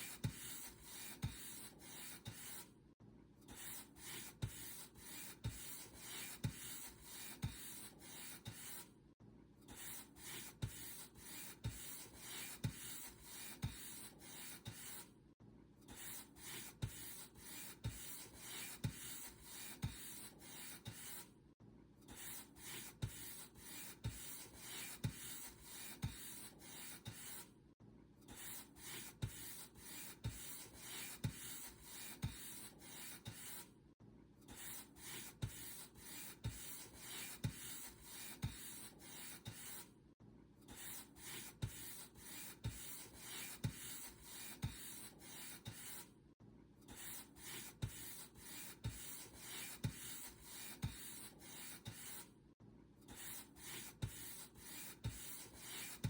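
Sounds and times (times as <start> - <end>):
paint brush strokes: 0.0 - 2.7, 3.6 - 8.9, 9.8 - 15.1, 15.9 - 21.3, 22.2 - 27.5, 28.3 - 33.7, 34.5 - 39.9, 40.7 - 46.1, 46.9 - 52.3, 53.1 - 56.0.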